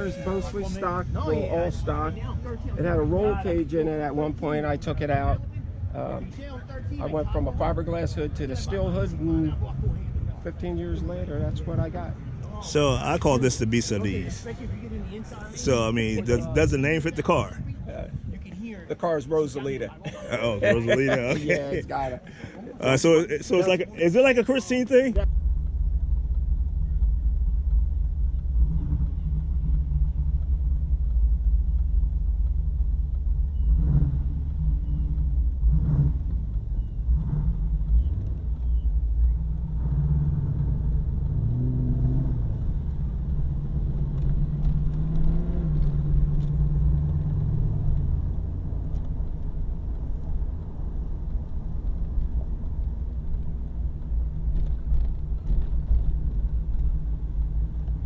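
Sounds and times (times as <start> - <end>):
car engine rumbling: 0.0 - 58.0.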